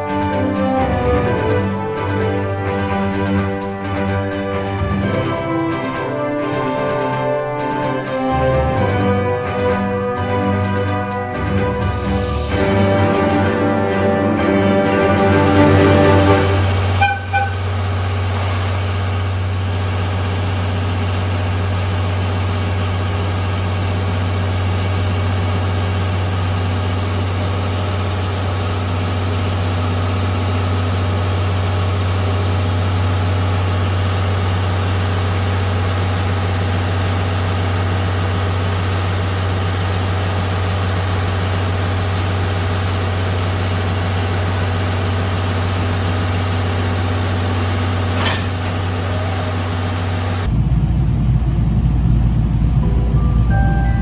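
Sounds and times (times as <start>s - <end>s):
machinery humming in train coach: 0.0s - 54.0s.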